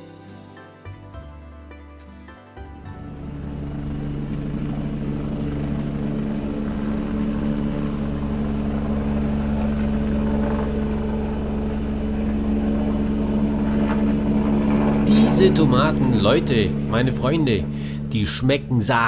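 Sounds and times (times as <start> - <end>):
low hum of held tones: 3.0 - 19.0.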